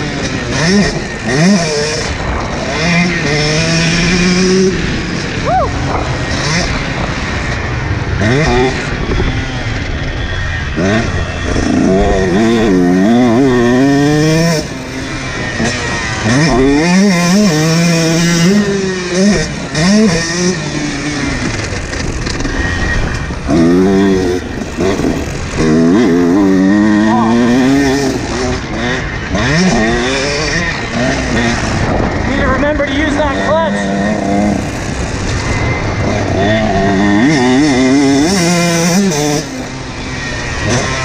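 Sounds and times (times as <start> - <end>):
two-stroke motorcycle engine revving: 0.0 - 41.0.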